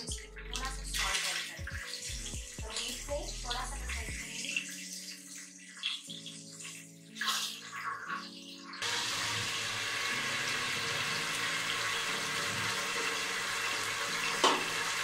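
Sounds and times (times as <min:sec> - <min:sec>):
hot oil sizzling: 0:00.0 - 0:15.0
soft background music: 0:00.0 - 0:15.0.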